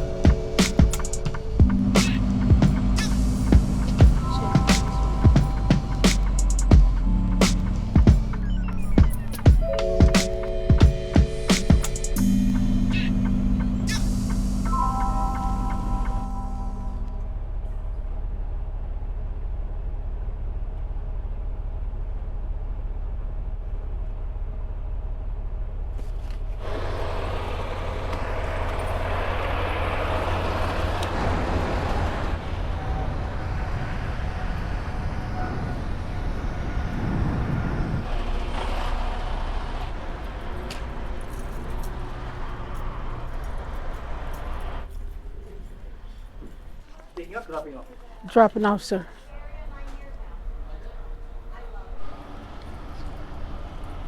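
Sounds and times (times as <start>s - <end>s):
diesel engine hum: 0.0s - 54.0s.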